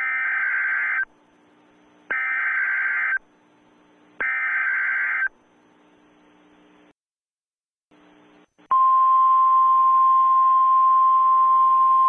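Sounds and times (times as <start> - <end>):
faint hum: 0.0 - 7.0, 7.9 - 12.0.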